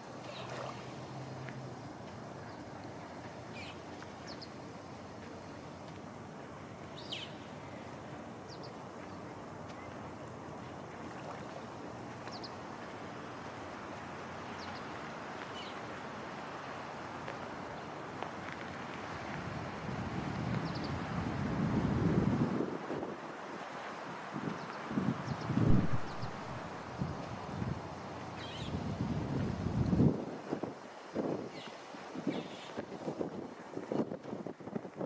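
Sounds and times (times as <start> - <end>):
surf: 0.0 - 35.0.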